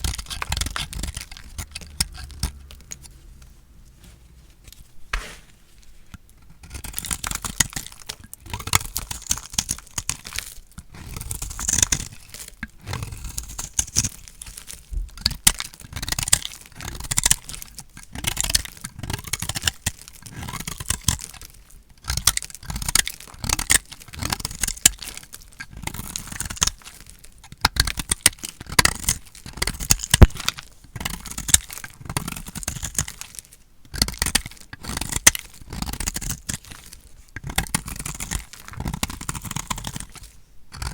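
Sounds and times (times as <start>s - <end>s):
bar soap crunching under blade: 0.0s - 3.1s, 4.6s - 40.9s.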